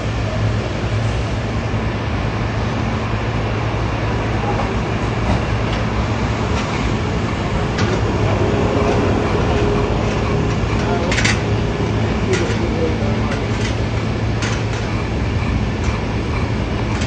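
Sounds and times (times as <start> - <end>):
city street traffic rumble: 0.0 - 17.0
low engine hum: 0.0 - 17.0.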